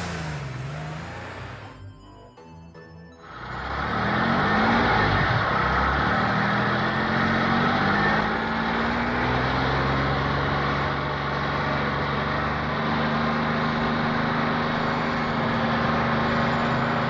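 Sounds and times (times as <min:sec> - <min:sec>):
car engine running steadily: 0:00.0 - 0:01.8, 0:03.2 - 0:17.0.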